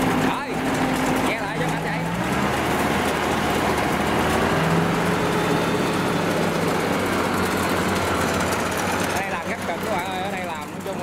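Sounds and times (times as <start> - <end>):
combine harvester droning: 0.0 - 11.0.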